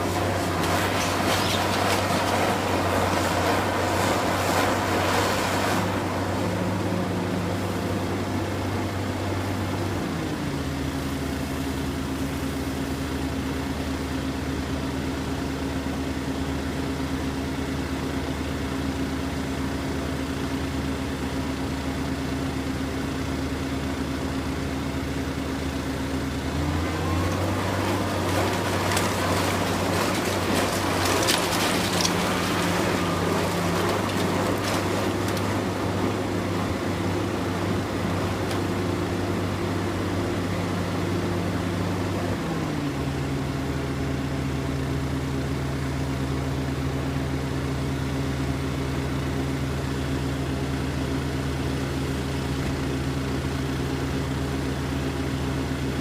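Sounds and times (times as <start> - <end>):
engine running steadily: 0.0 - 56.0
rough noisy rumble: 0.0 - 56.0.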